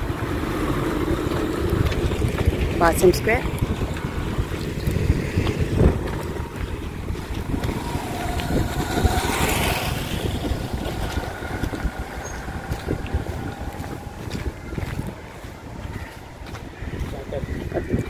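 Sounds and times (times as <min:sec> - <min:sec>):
motorcycle passing by: 0:00.0 - 0:17.9
steady low rumble: 0:00.0 - 0:18.0.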